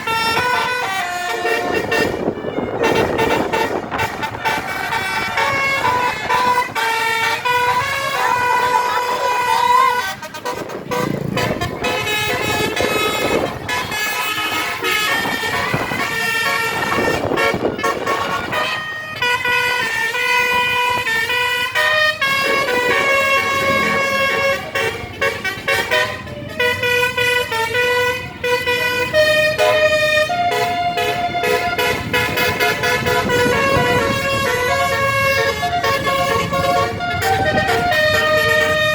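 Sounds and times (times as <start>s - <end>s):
multi-tone bus air horn melody: 0.0s - 38.9s
road traffic noise: 0.0s - 38.9s.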